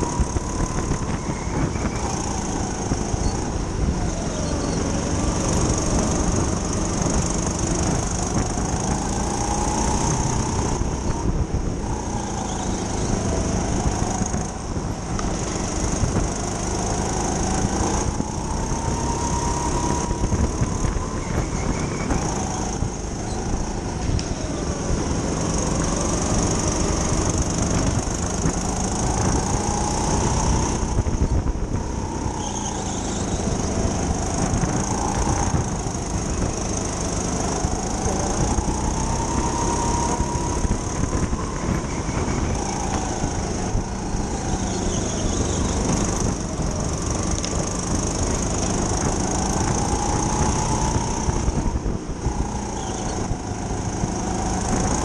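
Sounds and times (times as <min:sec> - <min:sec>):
kart motor revving: 0:00.0 - 0:55.0
tyre and track noise: 0:00.0 - 0:55.0.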